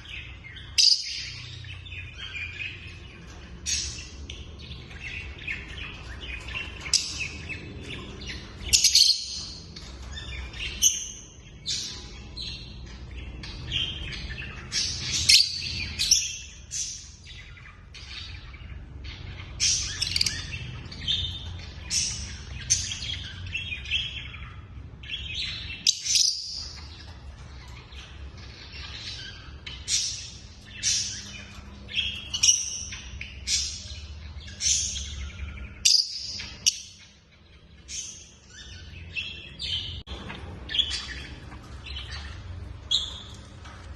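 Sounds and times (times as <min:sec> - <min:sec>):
lovebirds chirping: 0:00.0 - 0:43.9.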